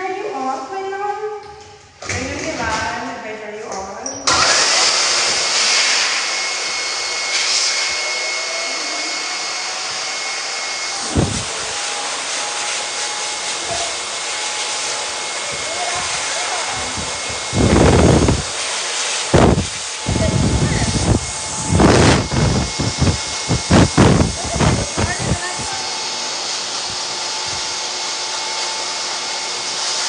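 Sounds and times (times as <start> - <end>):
blow dryer rushing air: 4.2 - 30.0.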